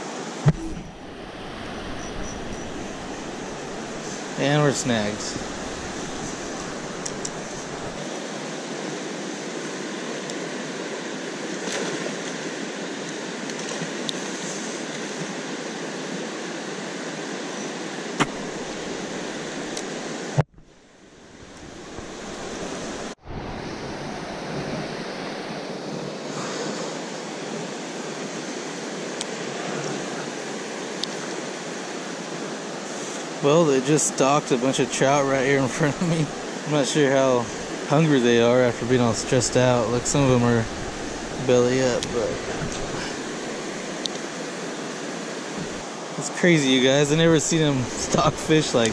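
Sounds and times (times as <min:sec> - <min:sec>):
river water rushing over rocks: 0:00.0 - 0:20.4, 0:21.2 - 0:48.9.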